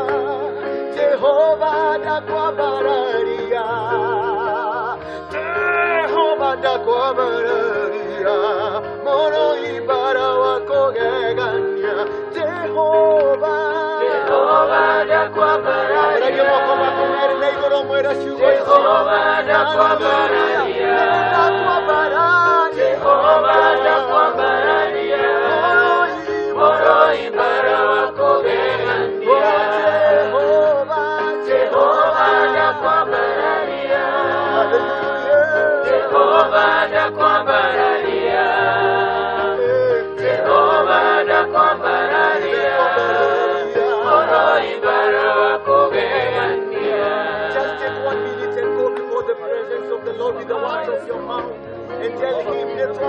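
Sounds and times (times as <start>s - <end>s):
group singing worship song: 0.0s - 9.9s, 10.5s - 53.0s
electronic keyboard: 0.0s - 53.0s.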